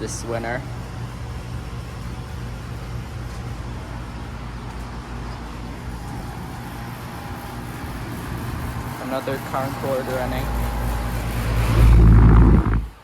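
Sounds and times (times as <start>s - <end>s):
condenser fan noise: 0.0s - 13.0s
low compressor hum: 0.6s - 13.0s.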